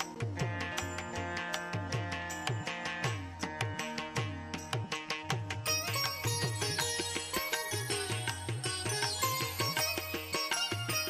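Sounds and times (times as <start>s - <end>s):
plucked string instrument: 0.0s - 11.0s.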